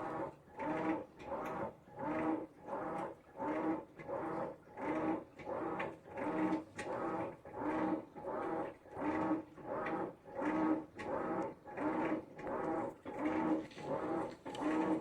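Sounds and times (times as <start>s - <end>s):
washing machine motor whirring: 0.0s - 15.0s.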